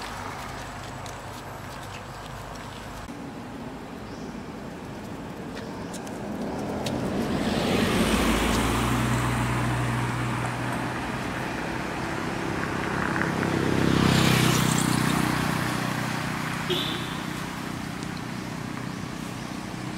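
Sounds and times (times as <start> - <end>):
vehicles passing on road: 0.0 - 19.9.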